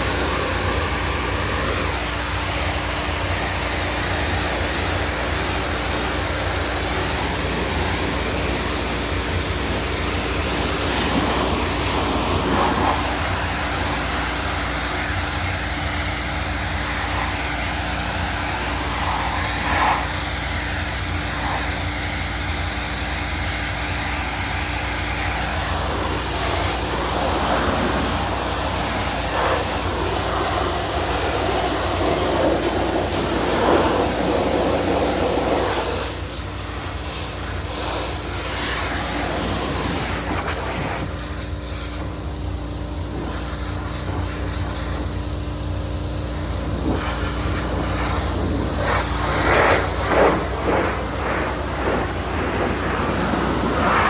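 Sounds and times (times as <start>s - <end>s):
high-pressure spray hissing: 0.0s - 54.0s
pressure washer motor hum: 0.0s - 54.0s.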